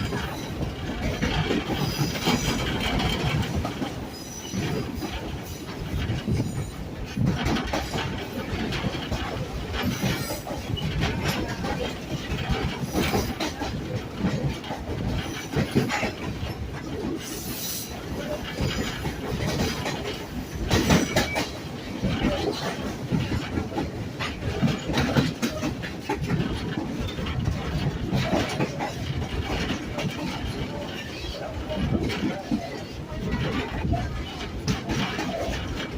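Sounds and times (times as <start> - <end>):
train rumble: 0.0 - 35.9
train wheels clacking and rattling: 0.0 - 35.9.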